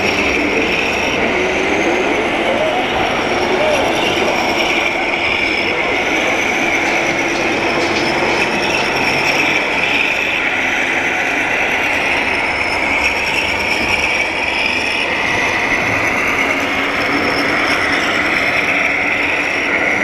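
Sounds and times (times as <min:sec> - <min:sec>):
model tractor motor whine: 0:00.0 - 0:20.0.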